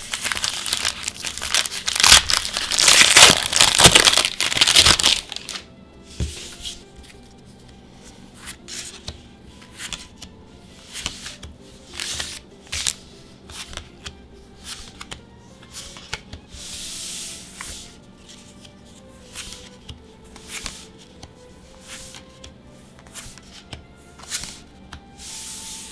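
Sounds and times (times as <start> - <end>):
trading cards flicking and snapping: 0.0 - 5.7, 8.4 - 10.3, 10.9 - 16.6, 17.5 - 25.1
cards sliding rub: 4.6 - 25.9.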